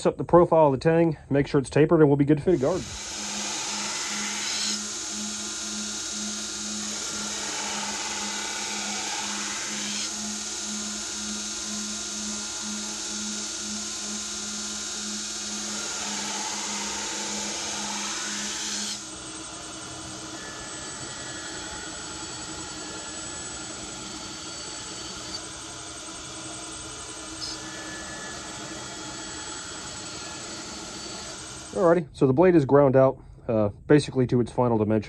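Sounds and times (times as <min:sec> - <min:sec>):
belt grinder grinding blade: 0:02.4 - 0:31.9
low pulsing hum: 0:02.5 - 0:32.3.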